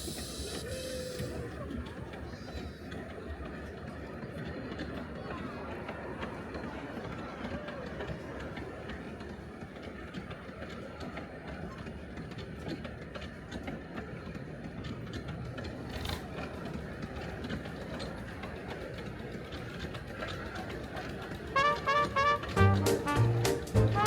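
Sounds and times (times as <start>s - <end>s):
miniature train rumbling: 0.0s - 24.0s
train wheel clicks: 0.0s - 24.0s.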